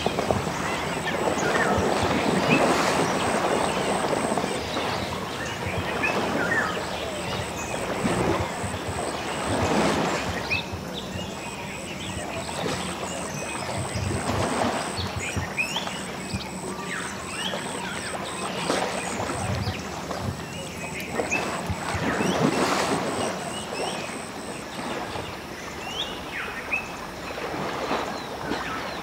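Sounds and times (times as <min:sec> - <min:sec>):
water sloshing and splashing: 0:00.0 - 0:29.0.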